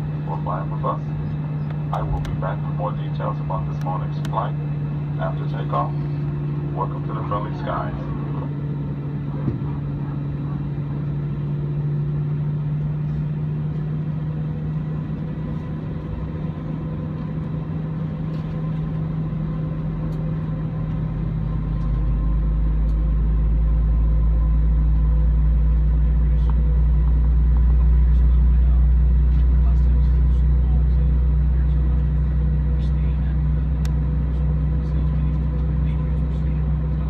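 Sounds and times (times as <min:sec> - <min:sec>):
droning cabin hum: 0:00.0 - 0:37.0.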